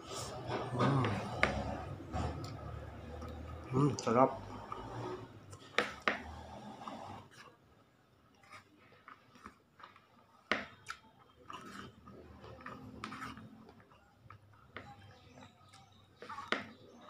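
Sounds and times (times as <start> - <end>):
person chewing rice: 0.0 - 7.6, 8.2 - 17.0.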